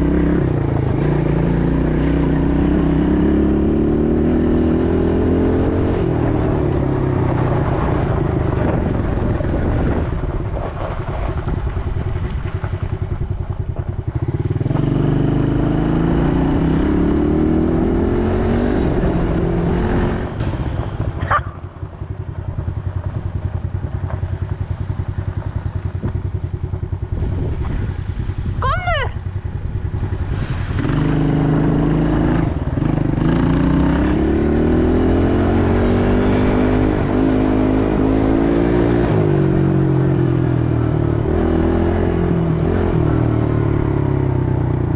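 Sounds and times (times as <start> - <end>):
atv engine revving: 0.0 - 10.9, 11.5 - 44.9.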